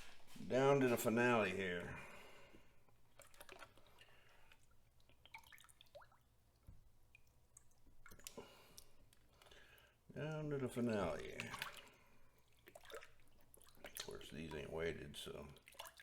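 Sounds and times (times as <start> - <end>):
faint water drips: 0.0 - 16.0
small water splashes in a pan: 2.4 - 16.0.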